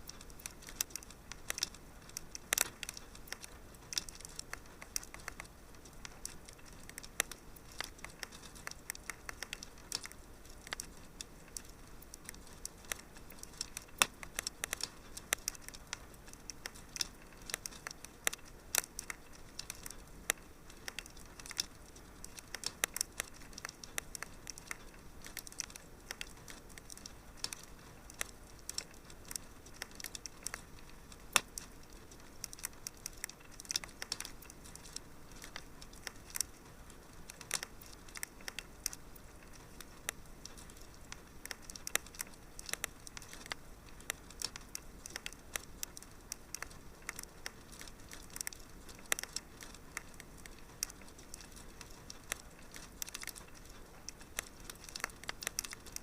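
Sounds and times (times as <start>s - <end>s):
faint steady hiss: 0.0s - 56.0s
wood fire crackling: 0.0s - 56.0s.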